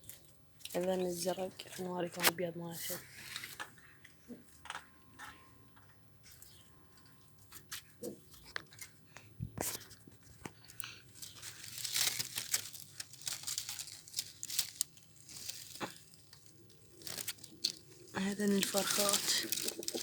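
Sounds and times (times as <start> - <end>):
rustling and crinkling: 0.0 - 20.0.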